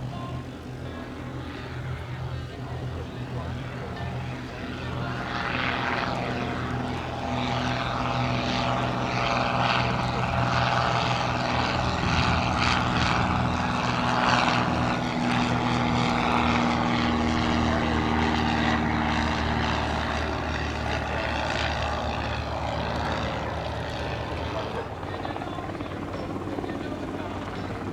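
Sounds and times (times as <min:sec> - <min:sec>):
propeller plane engine droning: 0:00.0 - 0:27.9.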